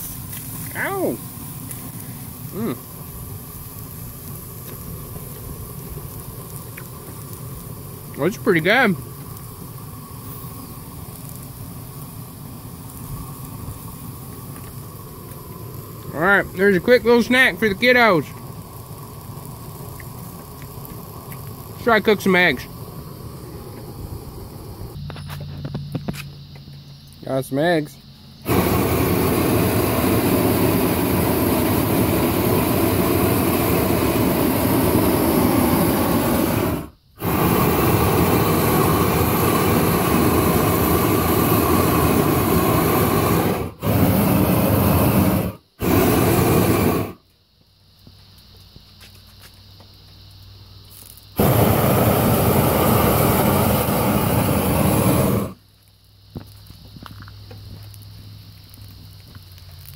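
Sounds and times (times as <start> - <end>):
blowtorch flame roaring: 0.0 - 26.2, 28.4 - 47.2, 51.4 - 55.6.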